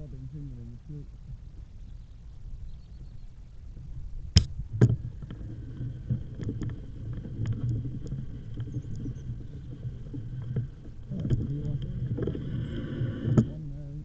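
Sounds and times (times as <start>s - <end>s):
e-bike riding rumble: 0.0s - 14.0s
faint motor whine: 0.0s - 14.0s.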